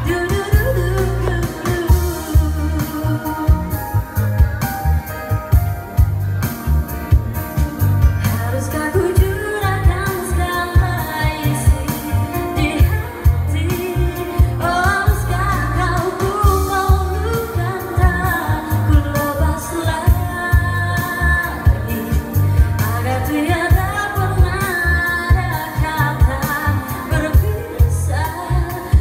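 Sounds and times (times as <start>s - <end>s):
woman singing pop song: 0.0s - 5.8s, 8.0s - 29.0s
keyboard playing chords: 0.0s - 29.0s.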